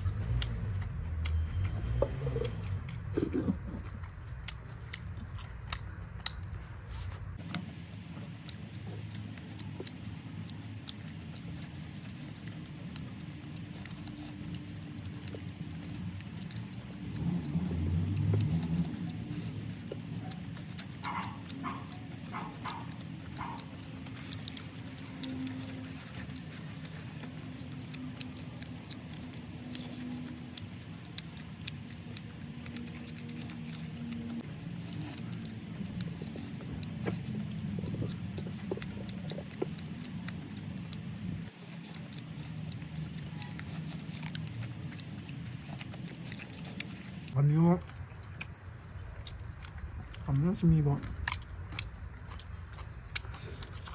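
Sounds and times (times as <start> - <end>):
person chewing food: 0.0 - 53.9
steady low hum: 0.0 - 53.9
steady low rumble: 0.0 - 53.9.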